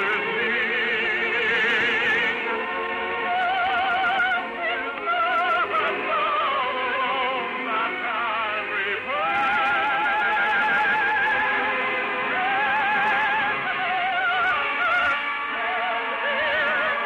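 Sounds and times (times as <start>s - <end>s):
musical accompaniment: 0.0s - 17.0s
operatic singing: 0.0s - 17.0s.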